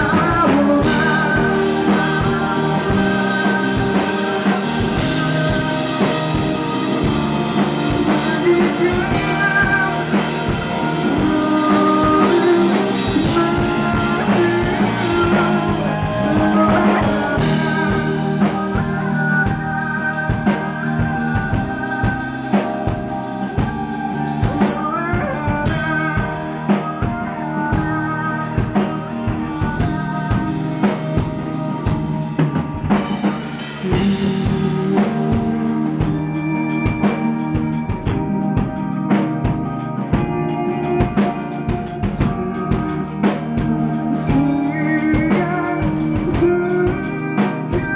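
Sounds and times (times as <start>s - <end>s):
drum kit beat: 0.0s - 47.9s
electric guitar: 0.0s - 47.9s
person singing: 0.0s - 47.9s.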